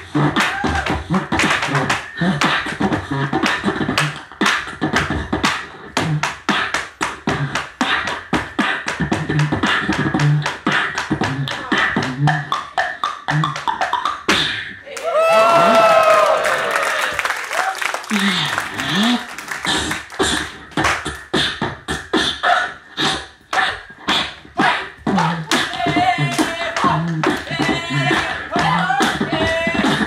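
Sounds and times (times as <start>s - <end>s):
beatboxing: 0.0s - 15.8s, 16.5s - 30.0s.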